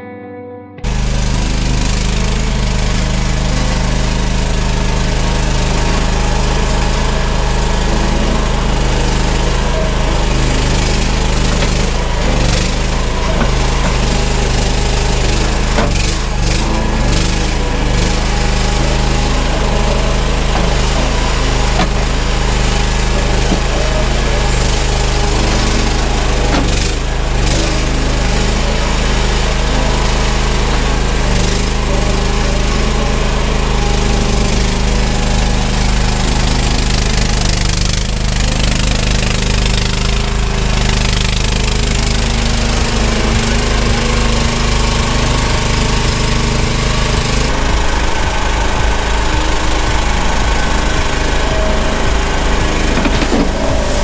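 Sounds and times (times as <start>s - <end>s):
skid steer engine running: 0.8s - 54.0s.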